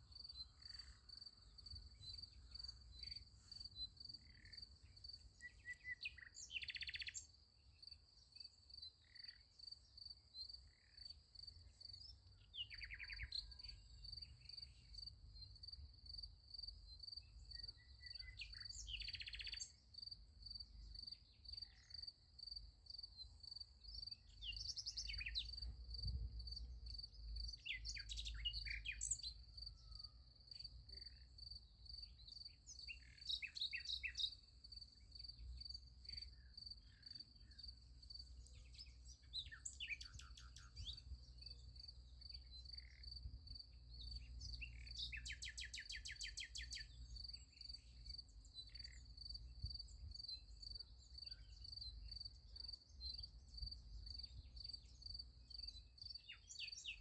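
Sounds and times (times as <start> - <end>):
crickets chirping: 0.0 - 12.5, 13.3 - 57.0
bird calls and chirps: 0.0 - 15.6, 16.7 - 19.9, 23.1 - 57.0.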